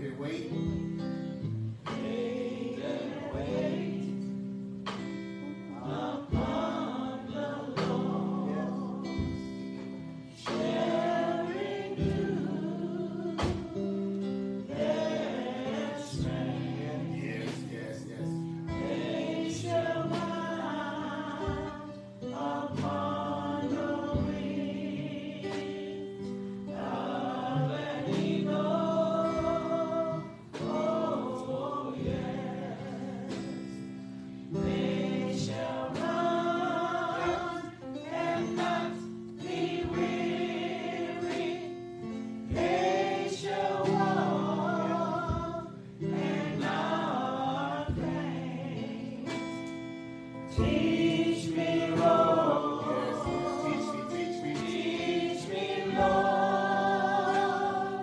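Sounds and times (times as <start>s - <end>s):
group singing gospel song: 0.0s - 58.0s.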